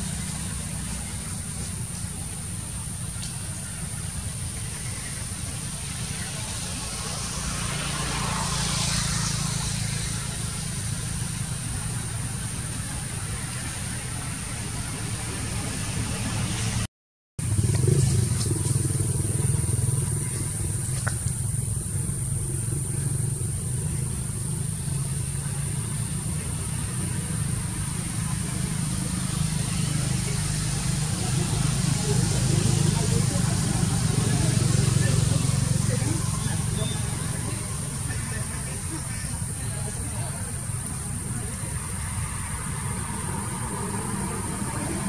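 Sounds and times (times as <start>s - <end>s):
constant high hiss: 0.0s - 16.7s, 17.4s - 45.0s
low engine-like hum: 0.0s - 45.0s.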